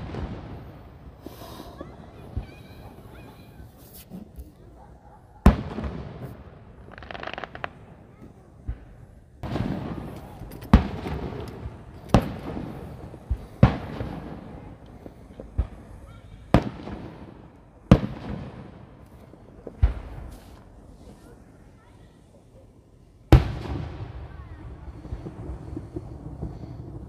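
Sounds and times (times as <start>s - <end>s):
fireworks booming: 0.0s - 21.6s, 23.3s - 27.0s.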